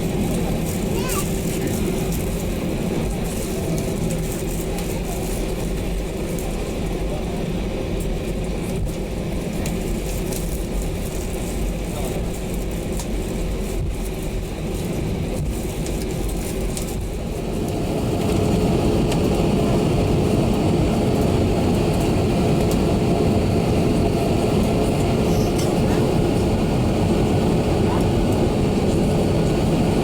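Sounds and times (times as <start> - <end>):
jet engines droning in cabin: 0.0 - 30.0.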